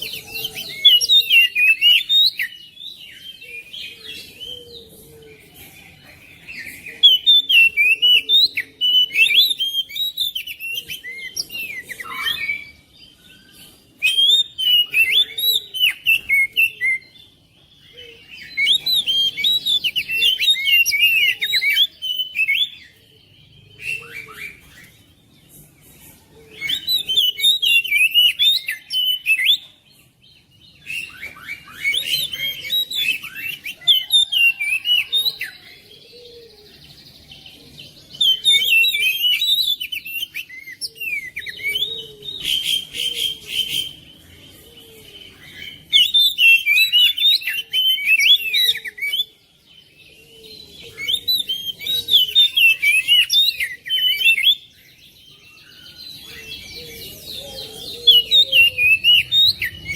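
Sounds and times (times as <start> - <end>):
bird singing chirps and whistles: 0.0 - 59.9.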